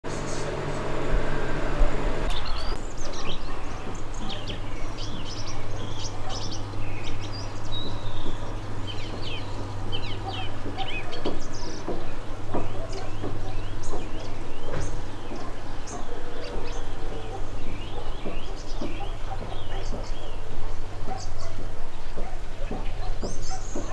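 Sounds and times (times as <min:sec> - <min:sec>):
low steady hum: 0:00.1 - 0:23.7
small songbirds chirping: 0:02.2 - 0:23.9.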